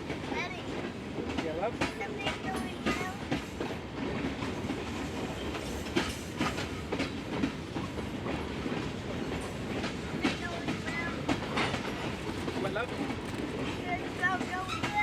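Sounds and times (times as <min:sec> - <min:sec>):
freight train rumbling past: 0:00.0 - 0:15.0
train wheels clicking over rail joints: 0:00.0 - 0:15.0.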